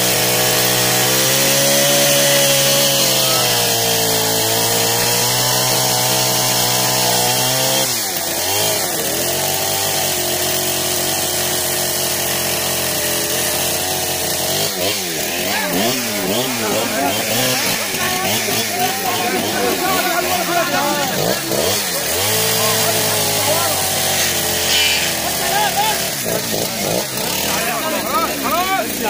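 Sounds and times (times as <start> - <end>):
chainsaw cutting wood: 0.0 - 29.0.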